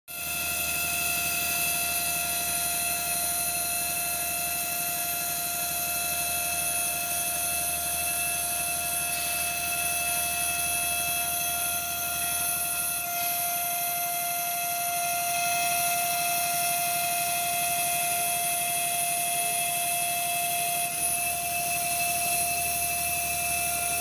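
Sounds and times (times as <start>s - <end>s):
spindle high whine: 0.2s - 24.0s.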